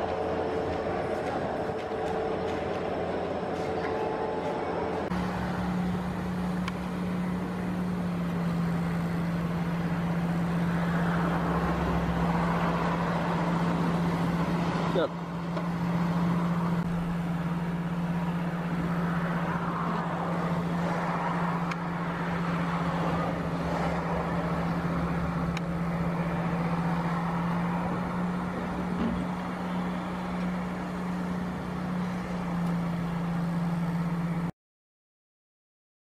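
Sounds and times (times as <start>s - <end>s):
car engine drone: 0.0s - 34.5s
tyre and road noise: 0.0s - 34.5s.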